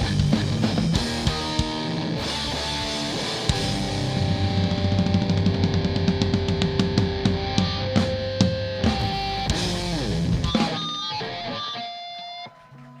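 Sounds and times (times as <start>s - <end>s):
rapid drum hits: 0.0s - 11.0s
live rock band playing: 0.0s - 12.5s
electric guitar: 0.0s - 13.0s.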